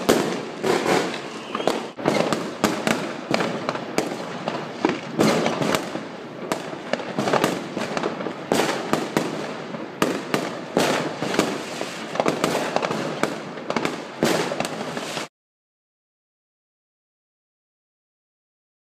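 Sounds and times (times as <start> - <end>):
firecrackers crackling: 0.0 - 15.3
fireworks bangs and cracks: 0.0 - 15.3.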